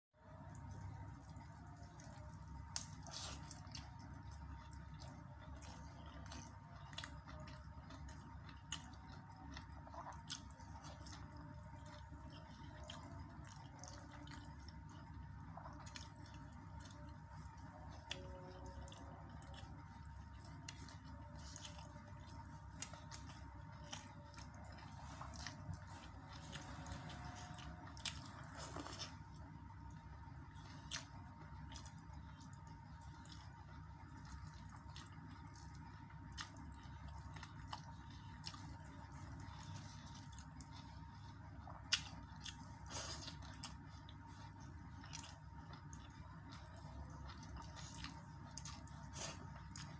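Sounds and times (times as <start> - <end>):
faint steady whine: 0.1 - 49.9
person chewing and smacking: 0.3 - 49.9.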